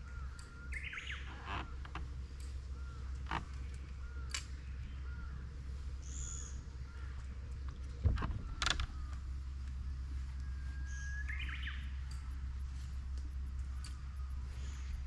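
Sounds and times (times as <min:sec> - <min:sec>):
birds calling: 0:00.0 - 0:15.0
steady low hum: 0:00.0 - 0:15.0.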